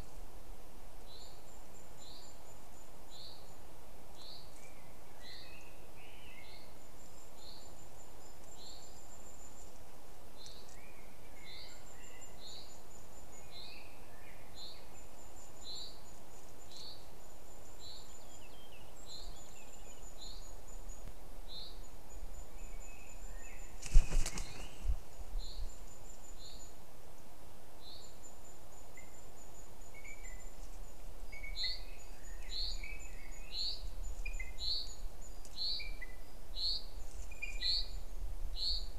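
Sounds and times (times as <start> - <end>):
woodland birdsong: 0.0 - 38.9.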